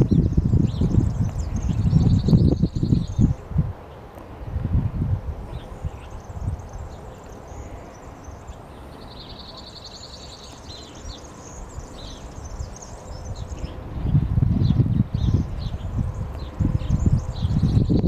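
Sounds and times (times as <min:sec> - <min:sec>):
bird chirping and trilling: 0:00.0 - 0:04.0, 0:05.5 - 0:18.0
low rumble of wind: 0:00.0 - 0:18.0.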